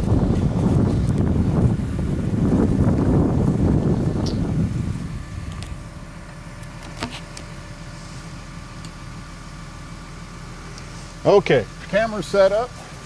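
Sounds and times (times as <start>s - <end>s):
engine idling: 0.0s - 13.0s
low rumble of wind: 0.0s - 13.0s.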